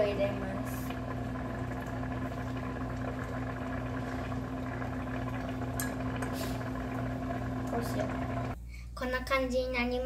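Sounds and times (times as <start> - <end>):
broth bubbling in saucepan: 0.0 - 8.6
low even hum: 0.0 - 9.0.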